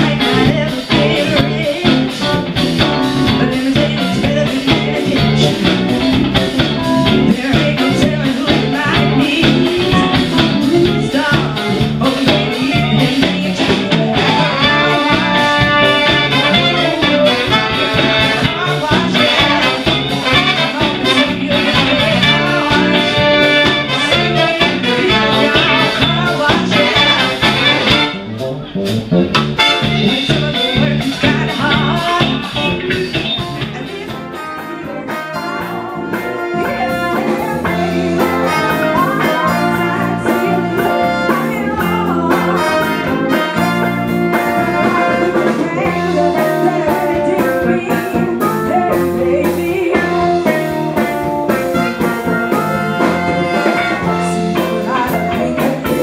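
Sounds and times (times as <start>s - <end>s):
live band playing upbeat pop: 0.0s - 56.0s.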